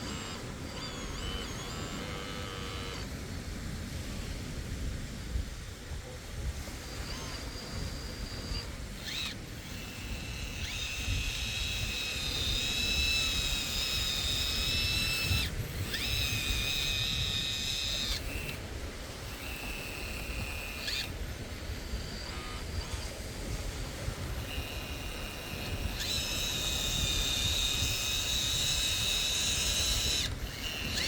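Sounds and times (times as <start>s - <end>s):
electric hydraulic pump whining: 0.0s - 3.3s, 6.0s - 31.0s.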